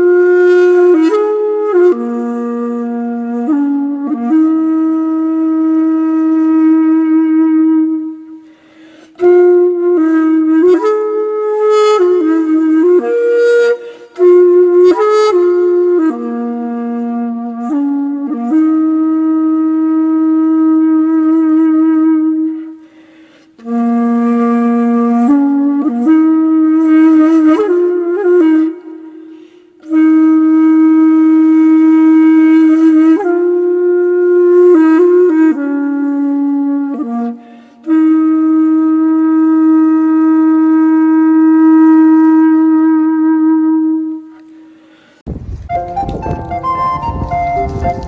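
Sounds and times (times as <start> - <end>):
flute-like melody with vibrato: 0.0 - 22.9, 23.6 - 44.4, 45.4 - 48.0.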